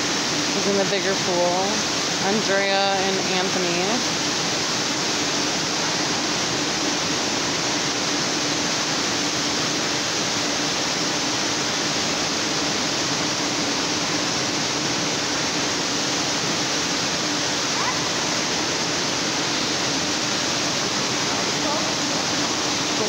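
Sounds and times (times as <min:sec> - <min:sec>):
rush of running water: 0:00.0 - 0:23.0.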